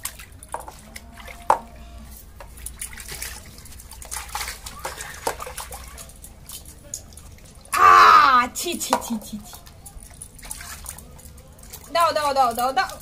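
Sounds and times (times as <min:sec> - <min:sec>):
water splashing in baby bathtub: 0:00.0 - 0:13.0.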